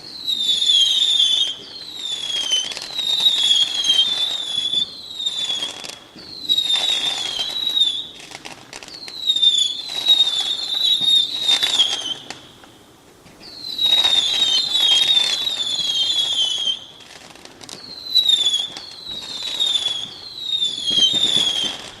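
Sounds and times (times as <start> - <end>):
fireworks crackling pops: 0.0 - 22.0
fireworks whistling: 0.0 - 22.0.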